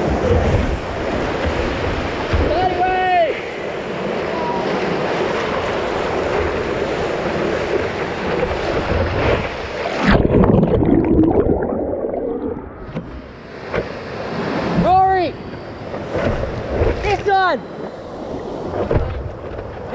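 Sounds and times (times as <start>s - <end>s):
muffled underwater churning: 0.0s - 19.9s
whitewater rushing and splashing: 0.0s - 19.9s.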